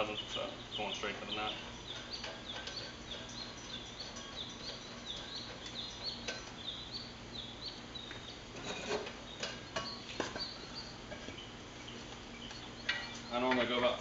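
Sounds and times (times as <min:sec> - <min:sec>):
high chirps: 0:00.0 - 0:13.8.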